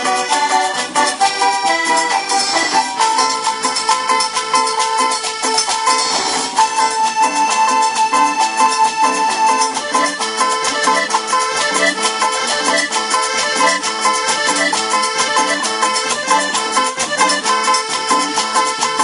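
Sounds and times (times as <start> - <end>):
steady percussion beat: 0.0 - 19.0
tropical dance band music: 0.0 - 19.0.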